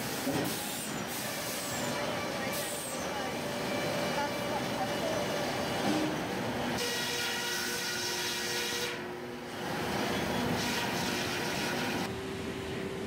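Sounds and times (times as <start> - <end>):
sawmill machine hum and whine: 0.0 - 13.0.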